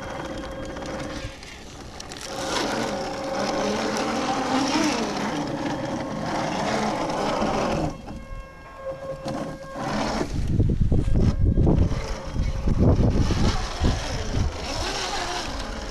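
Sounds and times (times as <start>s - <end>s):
toy truck electric motor whining: 0.0s - 15.9s.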